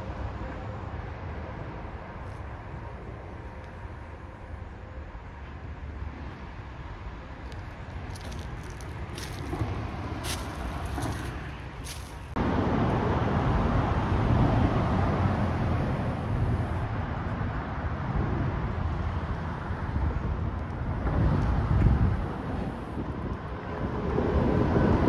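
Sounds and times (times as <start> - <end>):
highway traffic rushing: 0.0 - 25.0.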